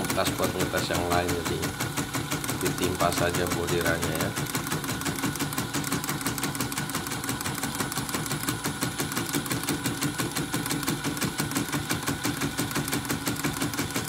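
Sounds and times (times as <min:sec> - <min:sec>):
embroidery machine clattering: 0:00.0 - 0:14.0.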